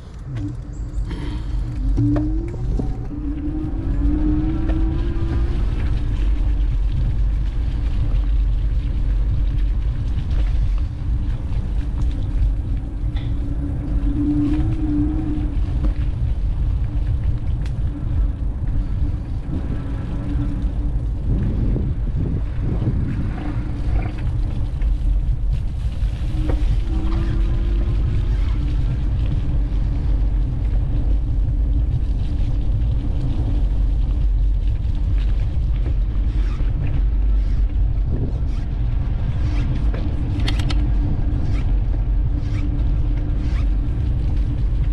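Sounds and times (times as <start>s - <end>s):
road noise: 0.0s - 44.9s
wind rumble: 0.0s - 44.9s.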